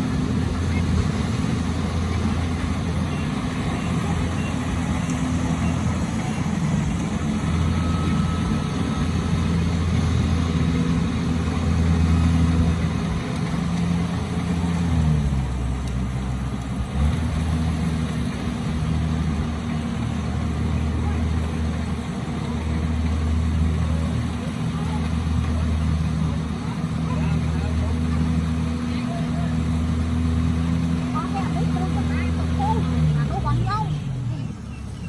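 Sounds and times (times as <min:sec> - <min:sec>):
combine harvester engine running: 0:00.0 - 0:35.0.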